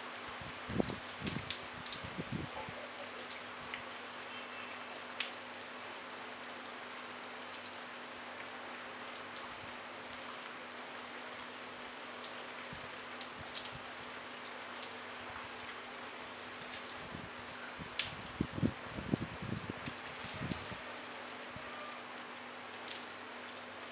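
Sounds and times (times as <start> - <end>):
light rain falling: 0.0 - 23.9
raindrop ticking close by: 0.1 - 23.9.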